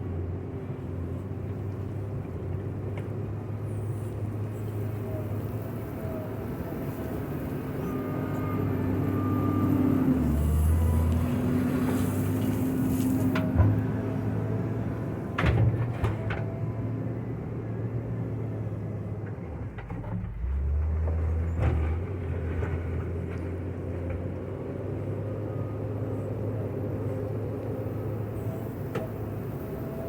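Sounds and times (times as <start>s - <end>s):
wheel loader diesel engine: 0.0s - 30.0s.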